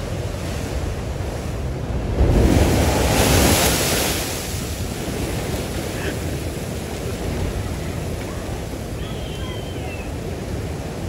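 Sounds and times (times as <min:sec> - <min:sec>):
heavy surf crashing: 0:00.0 - 0:11.0.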